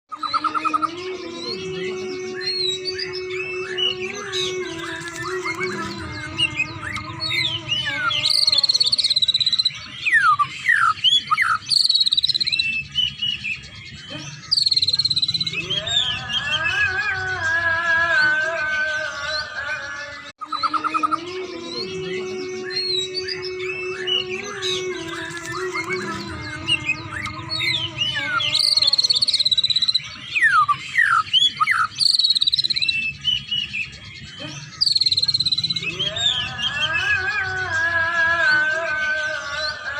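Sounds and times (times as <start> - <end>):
songbird trilling and whistling: 0.1 - 18.4, 20.4 - 39.9.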